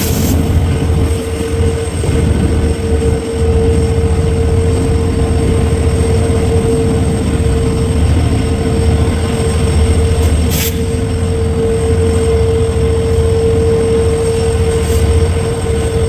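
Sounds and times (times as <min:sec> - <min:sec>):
diesel locomotive engine humming: 0:00.0 - 0:16.0.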